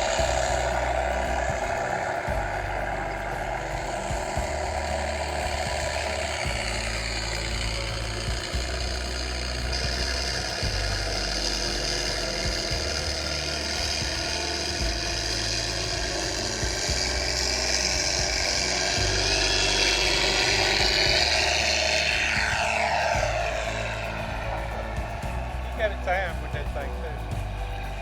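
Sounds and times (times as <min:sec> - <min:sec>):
model plane propeller whirring: 0:00.0 - 0:28.0
piston engine sound effects: 0:00.0 - 0:28.0.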